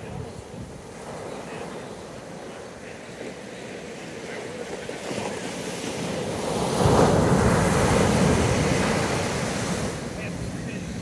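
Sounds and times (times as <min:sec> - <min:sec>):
ocean wave breaking on beach: 0:00.0 - 0:11.0.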